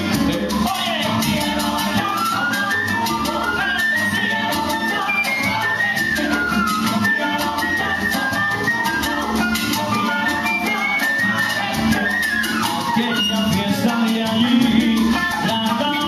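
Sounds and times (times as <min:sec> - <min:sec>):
melodic line: 0:00.0 - 0:16.0
percussion rhythm: 0:00.0 - 0:16.0.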